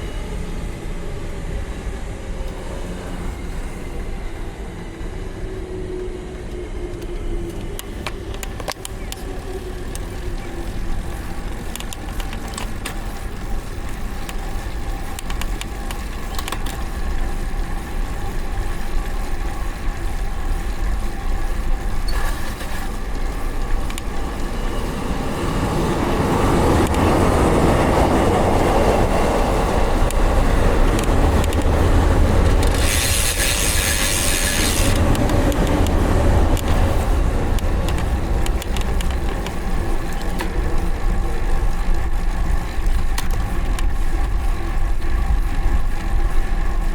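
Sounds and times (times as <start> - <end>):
train rumbling past: 0.0 - 46.9.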